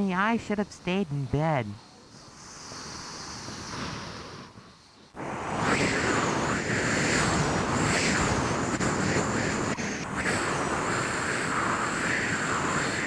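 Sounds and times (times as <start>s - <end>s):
rocket engine rushing: 2.2s - 13.0s.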